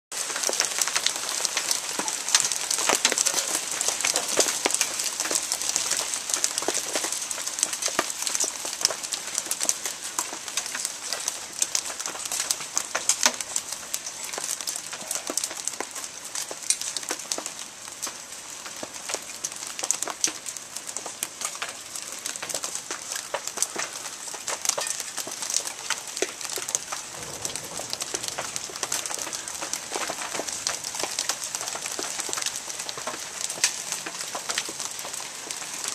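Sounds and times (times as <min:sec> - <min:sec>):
hail pelting hard surfaces: 0:00.1 - 0:35.9.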